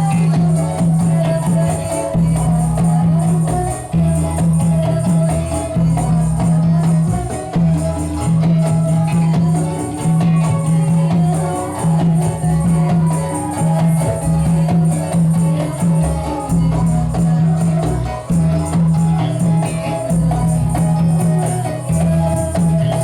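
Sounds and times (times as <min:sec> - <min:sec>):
dance music with percussion: 0:00.0 - 0:23.0
jingles: 0:00.0 - 0:23.0
low drum beat: 0:00.0 - 0:23.0.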